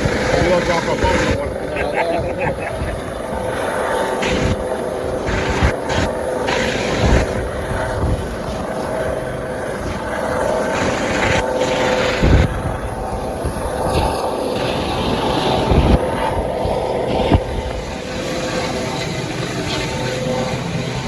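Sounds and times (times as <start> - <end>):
helicopter rotor and engine drone: 0.0 - 21.0
wind gusts on microphone: 0.0 - 21.0.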